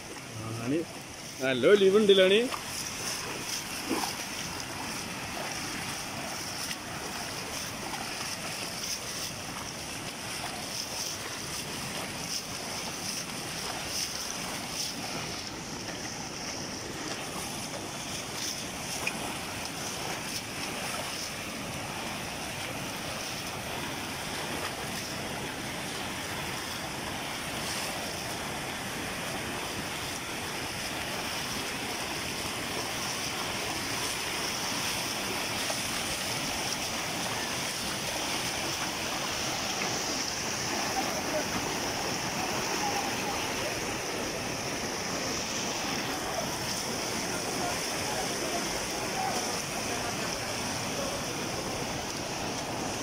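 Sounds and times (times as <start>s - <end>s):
floodwater rushing: 0.0s - 53.0s.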